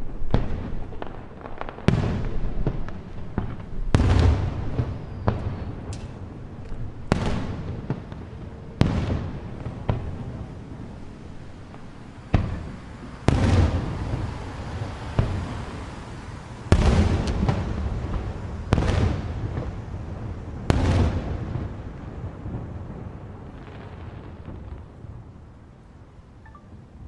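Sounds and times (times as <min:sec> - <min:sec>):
firework shells booming: 0:00.2 - 0:25.2.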